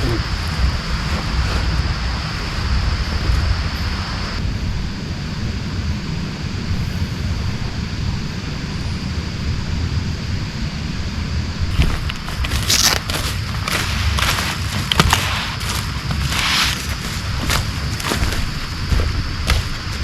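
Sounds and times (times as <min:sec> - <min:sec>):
deep low rumble: 0:00.0 - 0:20.0
heavy rain hissing: 0:00.0 - 0:20.0.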